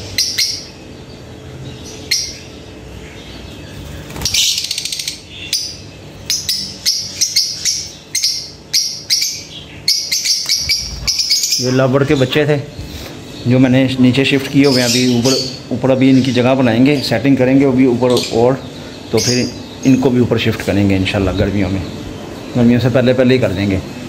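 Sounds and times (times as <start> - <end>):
lovebirds chirping: 0.0 - 24.0.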